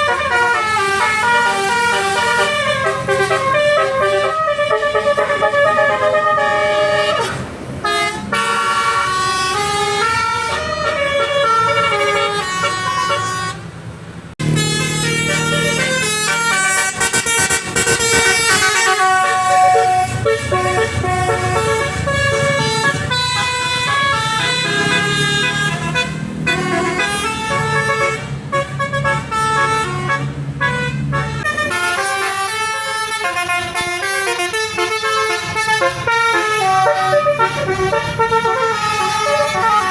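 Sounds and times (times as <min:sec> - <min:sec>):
bus horns playing melodic tunes: 0:00.0 - 0:39.9
low engine rumble: 0:00.0 - 0:39.9.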